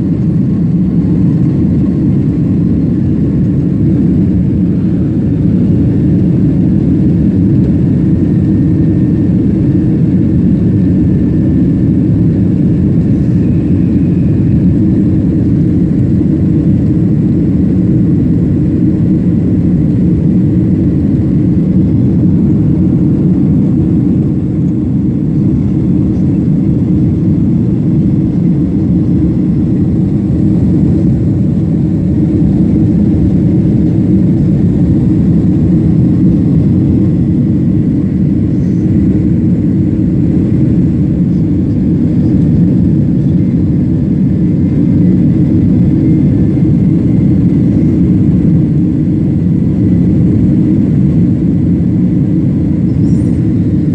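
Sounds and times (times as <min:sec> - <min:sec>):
airliner engine rumble in cabin: 0:00.0 - 0:53.9.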